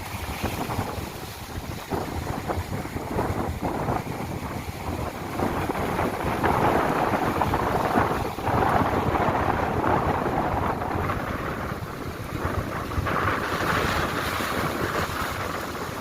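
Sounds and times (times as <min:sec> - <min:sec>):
sea surf breaking: 0:00.0 - 0:16.0
wind rumbling on microphone: 0:00.0 - 0:16.0.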